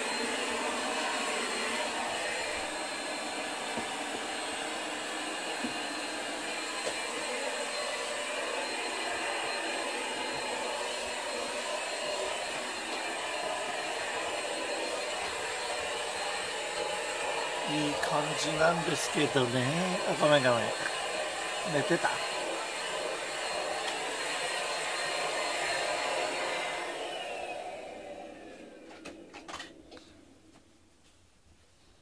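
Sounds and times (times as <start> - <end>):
vacuum cleaner running: 0.0 - 30.1.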